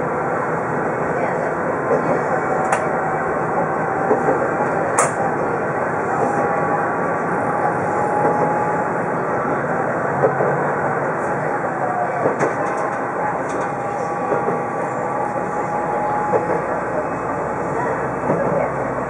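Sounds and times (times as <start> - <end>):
diesel railcar rumble: 0.0 - 19.0.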